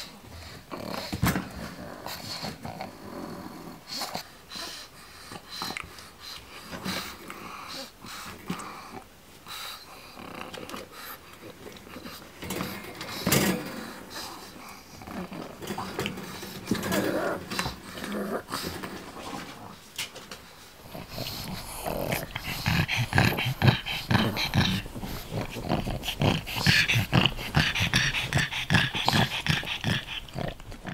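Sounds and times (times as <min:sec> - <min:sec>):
dog breathing noisily and grunting: 0:00.0 - 0:30.9.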